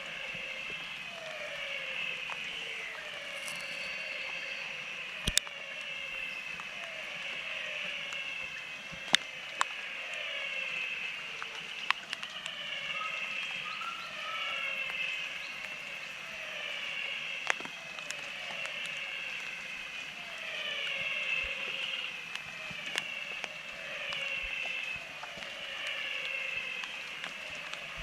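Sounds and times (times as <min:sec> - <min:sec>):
chorus of frogs: 0:00.0 - 0:28.0
rainwater drips: 0:00.0 - 0:28.0.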